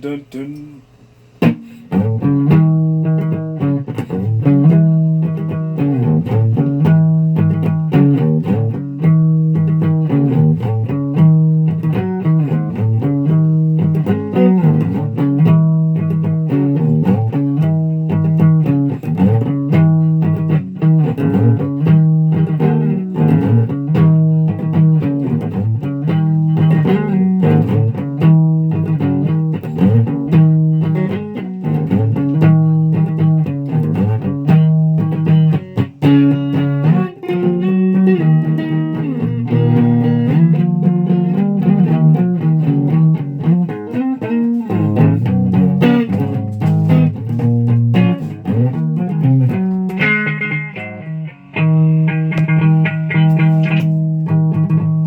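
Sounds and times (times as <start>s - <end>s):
amplified guitar riff: 0.0s - 55.0s.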